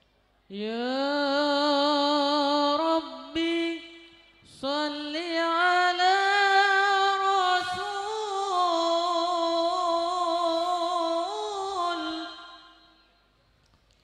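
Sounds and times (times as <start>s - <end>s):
young man singing into microphone: 0.5s - 12.7s.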